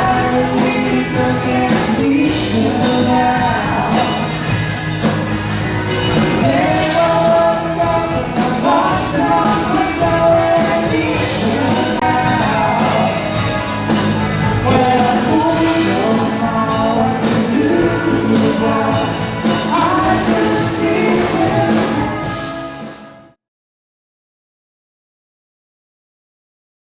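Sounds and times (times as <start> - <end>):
person singing: 0.0 - 4.6, 5.9 - 23.1
steady drum beat: 0.0 - 23.0
rock band playing: 0.0 - 23.4.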